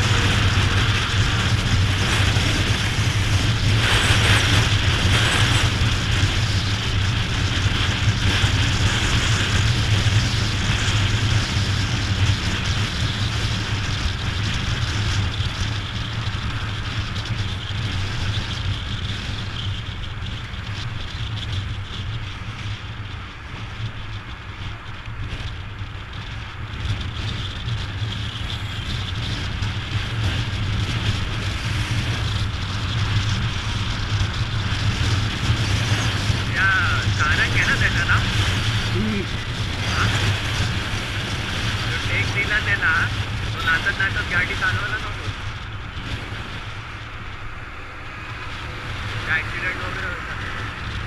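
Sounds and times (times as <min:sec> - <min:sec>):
motorcycle engine drone: 0:00.0 - 0:51.0
wind rushing over camera: 0:00.0 - 0:51.0.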